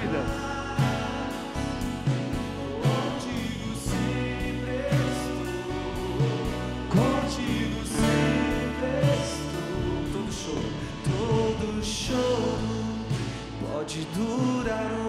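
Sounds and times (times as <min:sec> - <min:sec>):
steady beat: 0:00.0 - 0:12.8
band playing worship song: 0:00.0 - 0:15.0
voices singing: 0:00.0 - 0:15.0.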